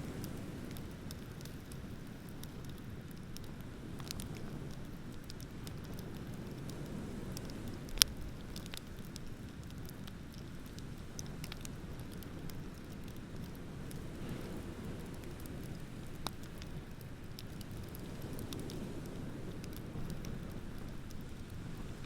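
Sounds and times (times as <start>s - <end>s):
ocean surf rumble: 0.0s - 9.9s, 11.2s - 22.0s
bonfire crackling and popping: 0.0s - 22.0s.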